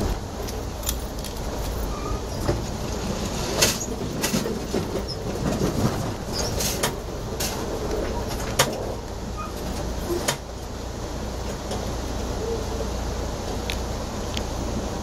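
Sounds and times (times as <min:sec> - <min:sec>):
train ride rumble: 0:00.0 - 0:15.0.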